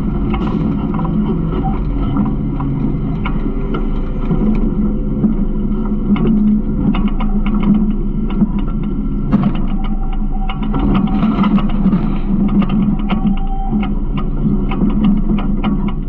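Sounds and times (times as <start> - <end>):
garbage truck humming: 0.0 - 14.9
rattles and clanks: 0.0 - 16.0.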